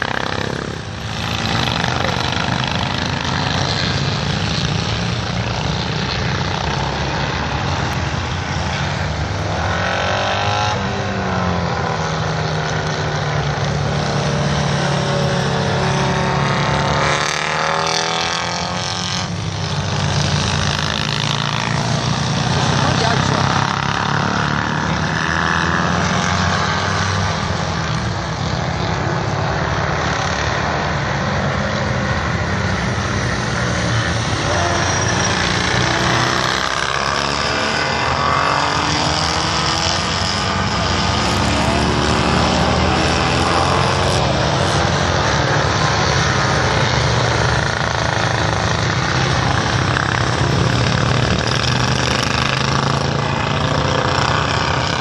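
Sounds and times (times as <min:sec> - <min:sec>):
racing motorcycle engines: 0:00.0 - 0:55.0.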